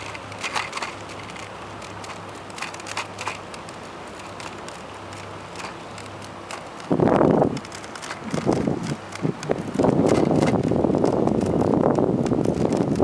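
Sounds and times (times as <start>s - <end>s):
bicycle clicks and rattles: 0.0s - 13.0s
bicycle rolling hum: 0.0s - 13.0s.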